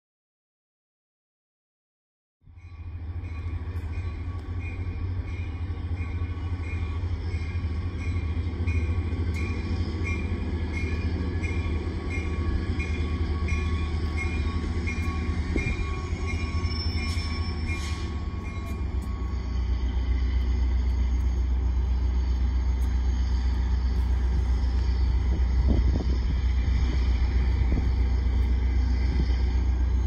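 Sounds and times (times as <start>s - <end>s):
train rumbling: 2.4s - 30.0s.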